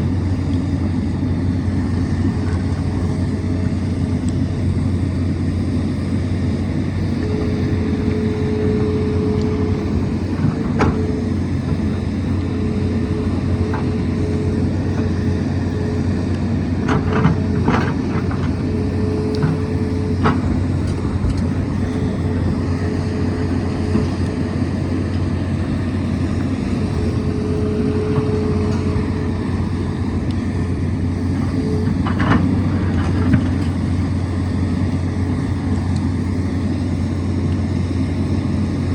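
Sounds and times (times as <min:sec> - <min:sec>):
excavator diesel engine running: 0:00.0 - 0:38.9
hydraulic whine: 0:00.0 - 0:38.9.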